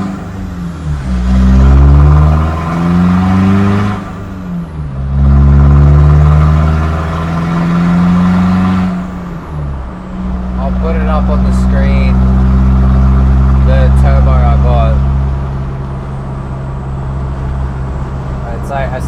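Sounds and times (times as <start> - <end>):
turbo engine accelerating: 0.0 - 19.0.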